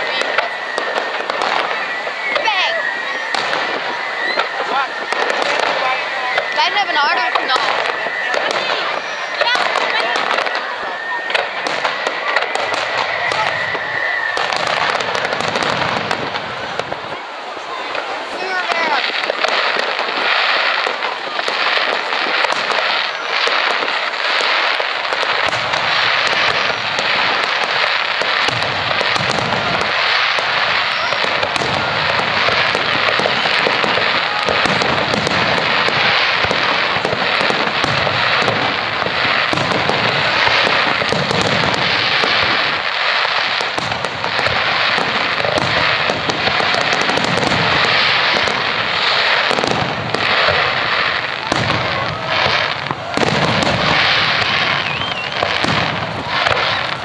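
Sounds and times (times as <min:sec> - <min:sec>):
fireworks crackling and popping: 0:00.0 - 0:57.0.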